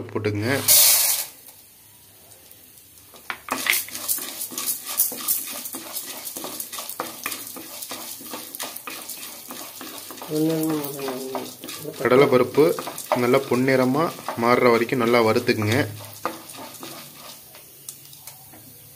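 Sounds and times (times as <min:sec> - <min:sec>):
light sizzle: 0:00.0 - 0:18.9
grains pouring into hot oil: 0:00.4 - 0:18.9
grains rattling and scraping in pan: 0:00.5 - 0:01.4, 0:03.1 - 0:18.2.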